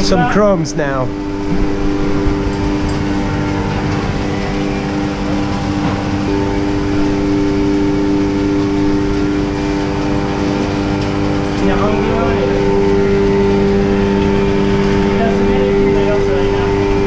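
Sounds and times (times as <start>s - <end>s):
film-winding machine humming: 0.0s - 17.0s.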